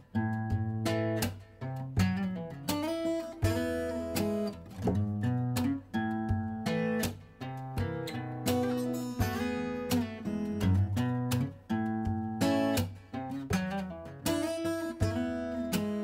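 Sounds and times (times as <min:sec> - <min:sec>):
acoustic guitar strummed and plucked: 0:00.0 - 0:16.0.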